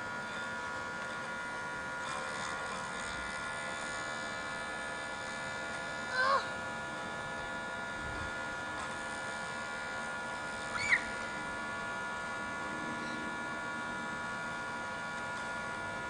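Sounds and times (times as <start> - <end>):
electrical hum and whine: 0.0 - 16.0.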